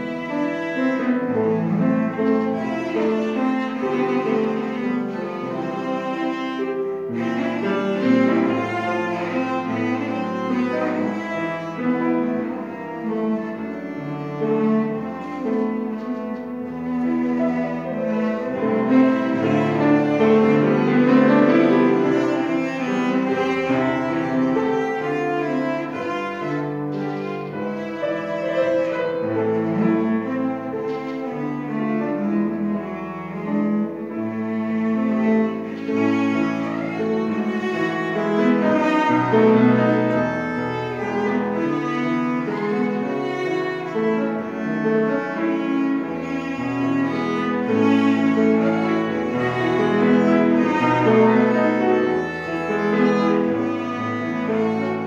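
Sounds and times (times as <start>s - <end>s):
bowed cello: 0.0s - 55.0s
grand piano: 0.0s - 55.0s.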